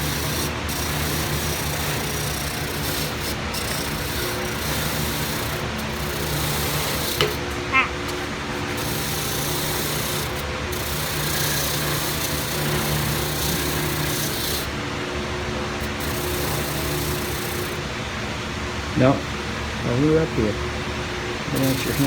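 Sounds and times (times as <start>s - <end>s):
bristles scratching off rust: 0.0s - 15.0s, 15.7s - 17.9s, 21.5s - 22.0s
wire wheel motor humming: 0.0s - 19.8s, 20.4s - 22.0s.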